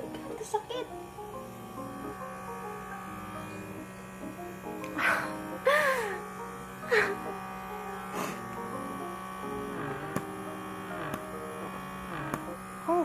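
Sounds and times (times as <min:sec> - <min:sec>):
background music: 0:00.0 - 0:13.0
small electric motor buzzing: 0:00.0 - 0:13.0.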